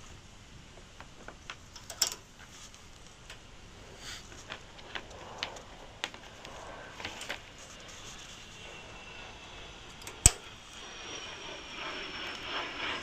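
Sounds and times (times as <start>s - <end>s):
faint steady hiss: 0.0s - 11.1s.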